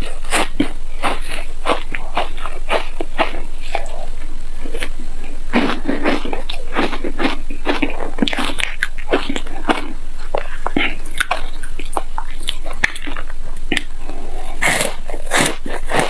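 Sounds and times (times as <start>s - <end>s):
chewing and crunching ice bar: 0.0s - 4.0s, 5.5s - 16.0s.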